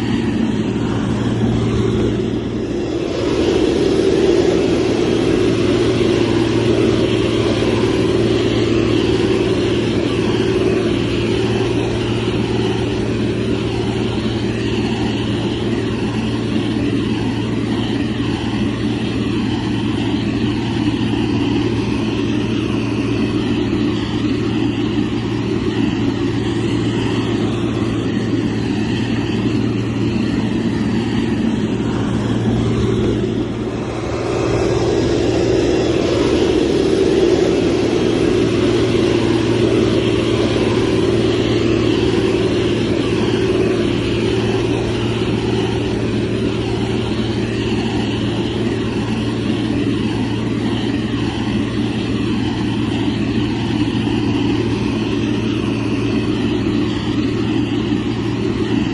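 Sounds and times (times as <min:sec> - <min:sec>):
diesel engine droning: 0:00.0 - 0:58.9.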